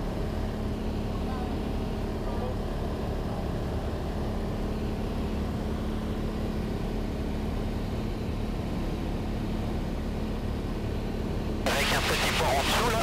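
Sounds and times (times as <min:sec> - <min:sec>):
plane engine drone in cabin: 0:00.0 - 0:13.0.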